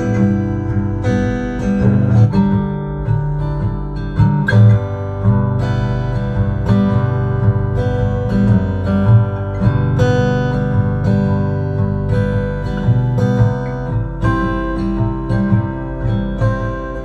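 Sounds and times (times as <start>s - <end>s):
acoustic guitar music on speaker: 0.0s - 17.0s.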